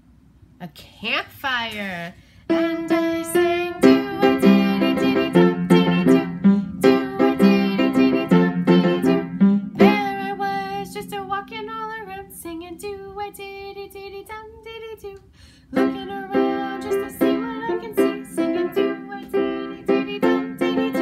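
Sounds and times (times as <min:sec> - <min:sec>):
person singing: 0:02.5 - 0:14.4, 0:15.7 - 0:21.0.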